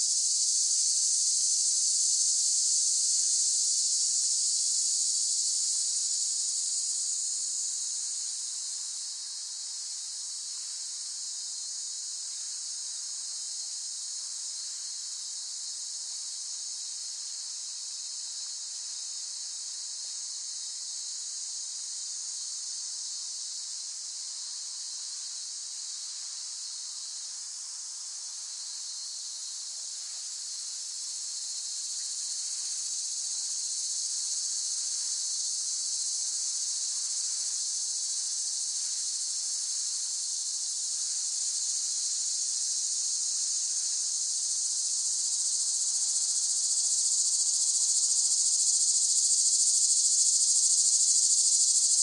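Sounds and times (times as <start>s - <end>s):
cicadas droning: 0.0s - 52.0s.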